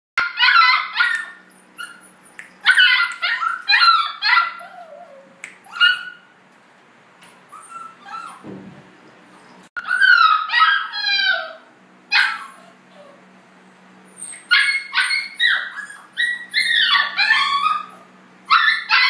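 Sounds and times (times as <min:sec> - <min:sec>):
puppy whimpering: 0:00.2 - 0:06.3, 0:07.2 - 0:08.5, 0:09.3 - 0:13.2, 0:14.1 - 0:19.0
puppy yipping: 0:00.2 - 0:06.3, 0:07.2 - 0:08.4, 0:09.3 - 0:13.2, 0:14.1 - 0:19.0.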